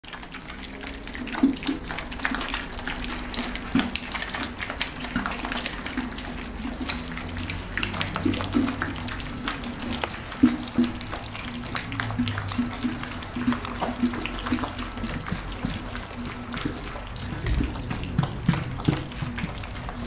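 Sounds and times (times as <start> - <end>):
puppies lapping and slurping: 0.0 - 20.0.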